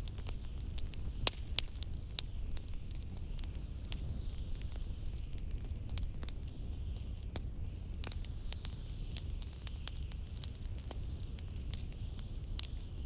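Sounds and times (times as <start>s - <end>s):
low rumble of wind: 0.0s - 13.0s
wood fire crackling and popping: 0.0s - 13.0s.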